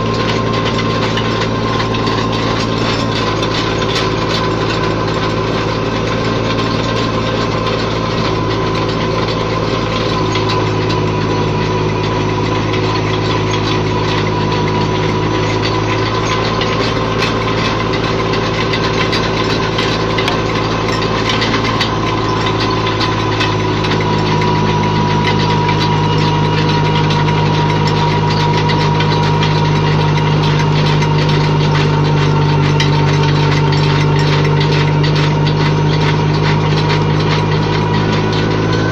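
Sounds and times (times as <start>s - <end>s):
auger boring into soil: 0.0s - 38.9s
thin steady whine: 0.0s - 38.9s
tractor diesel engine running: 0.0s - 38.9s.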